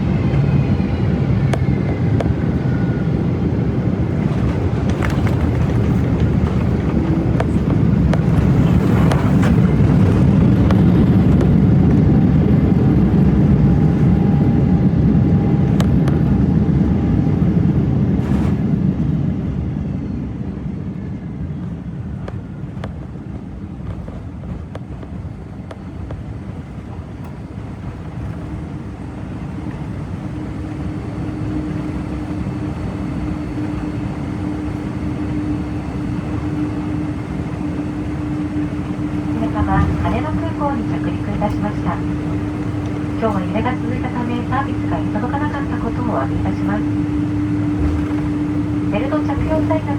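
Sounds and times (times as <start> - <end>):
aircraft cabin rumble: 0.0 - 49.9.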